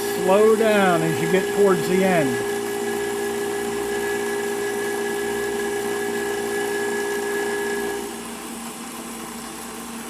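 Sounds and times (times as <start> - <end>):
end mill cutting whine: 0.0 - 8.1.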